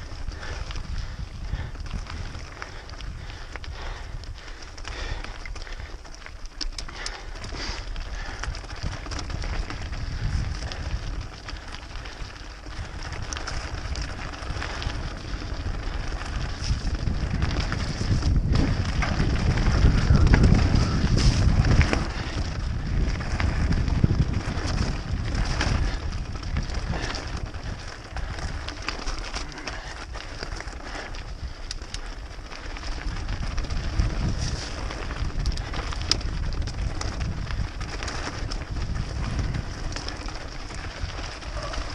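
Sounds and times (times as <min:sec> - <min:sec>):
bike rattling and clicking: 0:00.0 - 0:41.9
tyres on dirt and stones: 0:00.0 - 0:41.9
wind rumbling on microphone: 0:00.0 - 0:41.9.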